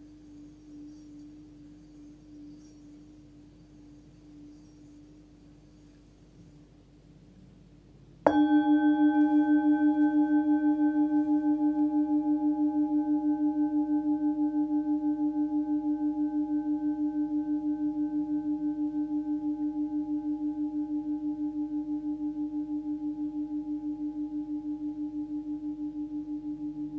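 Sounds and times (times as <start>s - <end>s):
singing bowl ringing: 0.0s - 6.7s, 8.3s - 26.9s.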